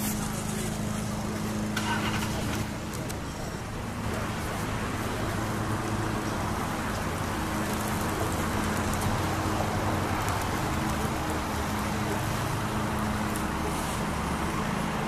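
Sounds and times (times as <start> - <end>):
running vehicle hum and hiss: 0.0 - 15.0.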